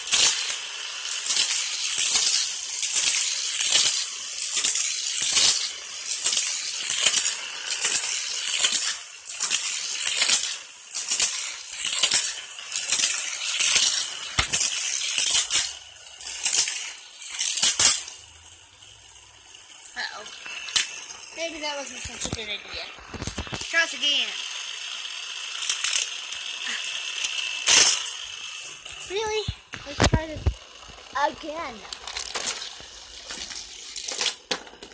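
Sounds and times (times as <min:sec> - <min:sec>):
toy cars rattling on plastic track: 0:00.0 - 0:34.9
sharp plastic clacks: 0:01.2 - 0:18.2, 0:20.4 - 0:23.9, 0:25.6 - 0:26.4, 0:27.2 - 0:34.9.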